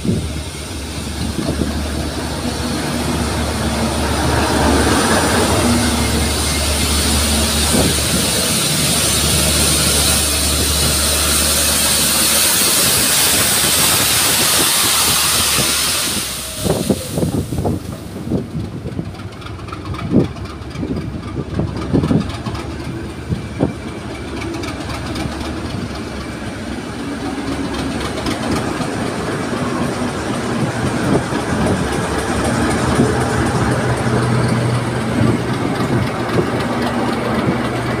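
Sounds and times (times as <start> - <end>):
diesel locomotive engine: 0.0 - 38.0
tank wagons clanking over track: 0.0 - 38.0.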